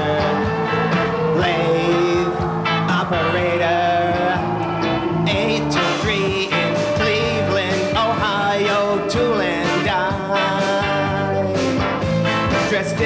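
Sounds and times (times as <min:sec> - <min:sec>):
lead instrument bending notes: 0:00.0 - 0:10.7
country-rock band playing: 0:00.0 - 0:13.0.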